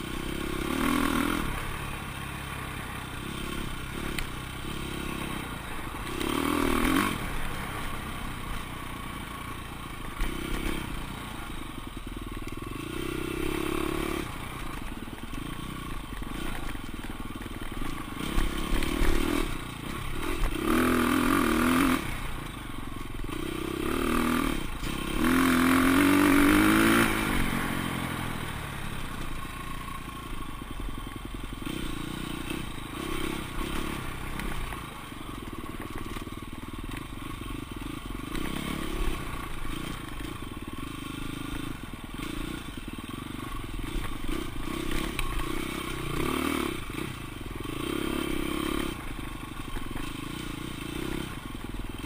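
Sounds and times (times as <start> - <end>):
dirt bike engine revving: 0.0 - 11.8, 12.6 - 29.6, 31.2 - 36.2, 36.9 - 52.0.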